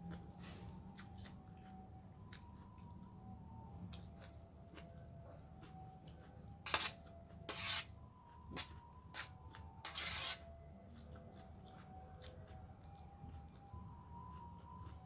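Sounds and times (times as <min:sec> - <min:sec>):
crunching and chewing salad: 0:00.0 - 0:03.2, 0:03.8 - 0:15.0.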